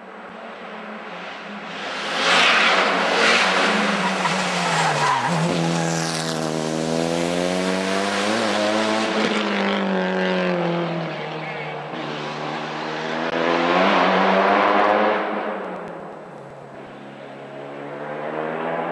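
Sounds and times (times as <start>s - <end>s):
rally car engine at full throttle: 0.0s - 18.9s.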